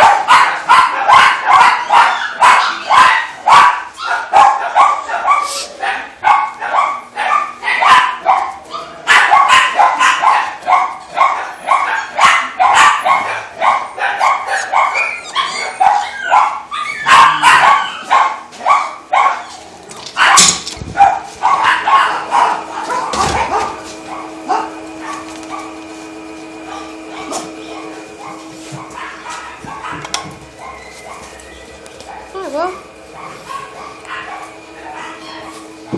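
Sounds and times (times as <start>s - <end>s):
dogs barking: 0.0s - 35.9s.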